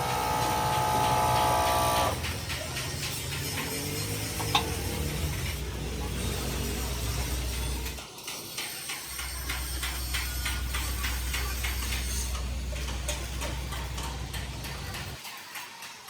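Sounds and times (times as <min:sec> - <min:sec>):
low machinery hum: 0:00.0 - 0:08.0, 0:09.2 - 0:15.2
mechanical clatter: 0:00.0 - 0:16.0.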